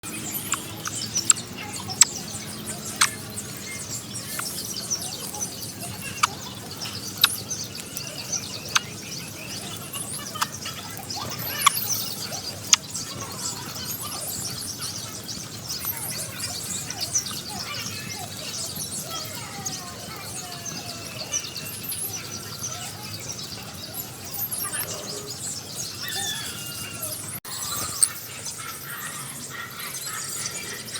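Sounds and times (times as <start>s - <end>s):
baby birds chirping and squealing: 0.1s - 30.9s.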